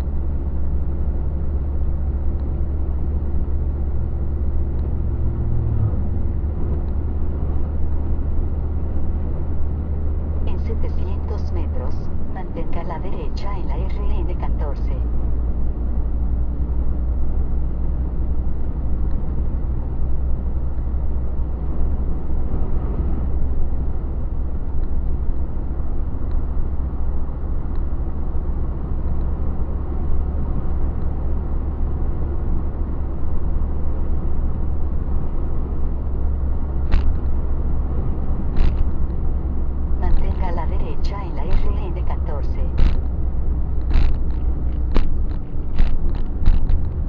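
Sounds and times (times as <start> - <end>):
truck engine rumble in cab: 0.0 - 47.0.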